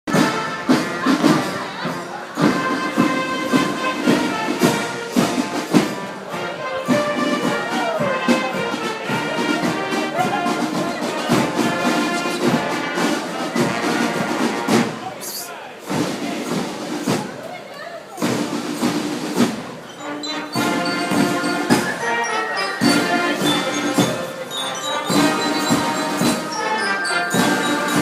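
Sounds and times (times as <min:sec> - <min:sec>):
orchestral music with brass: 0:00.1 - 0:15.2, 0:15.8 - 0:17.2, 0:18.1 - 0:28.0.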